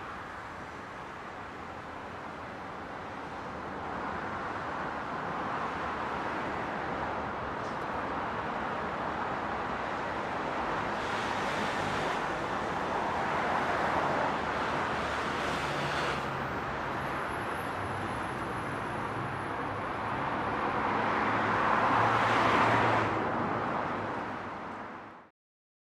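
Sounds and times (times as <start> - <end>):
wind and road noise: 0.0 - 25.3.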